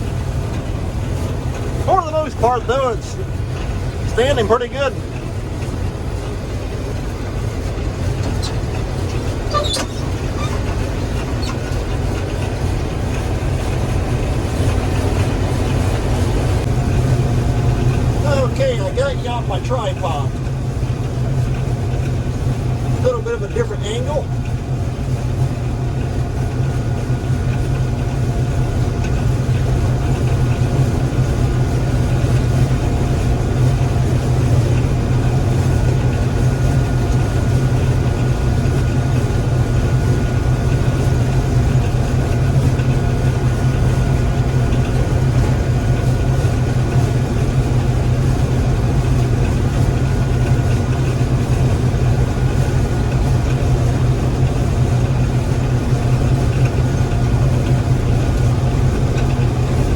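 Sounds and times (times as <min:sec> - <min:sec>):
combine engine drone: 0:00.0 - 0:59.9
faint steady whines: 0:00.0 - 0:59.9.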